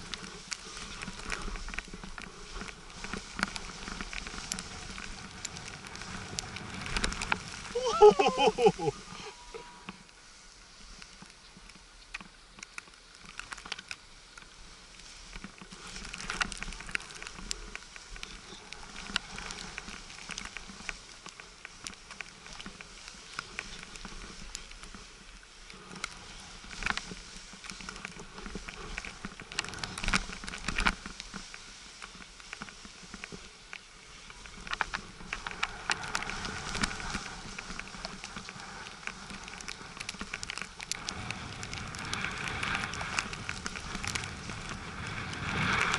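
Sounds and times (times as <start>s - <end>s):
snow hissing and scraping under skis: 0.0s - 45.9s.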